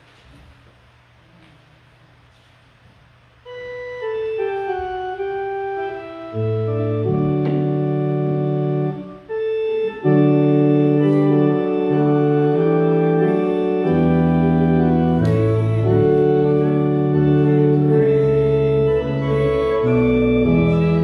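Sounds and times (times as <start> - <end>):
organ playing sustained chords: 3.3 - 21.0.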